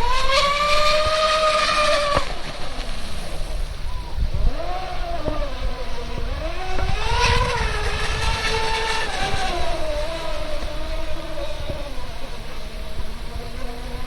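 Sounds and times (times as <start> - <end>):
low wind rumble: 0.0 - 14.0
rc boat motors whining: 0.0 - 14.0.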